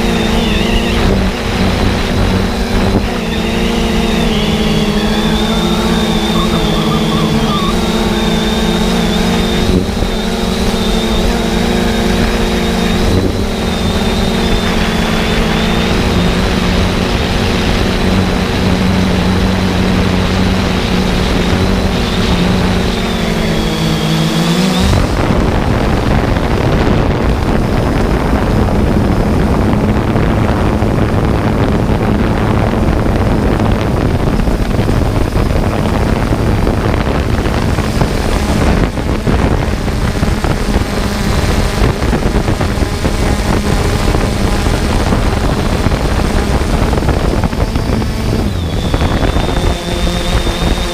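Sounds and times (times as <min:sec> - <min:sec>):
drone propellers whining: 0:00.0 - 0:50.9
rushing wind noise: 0:00.0 - 0:50.9.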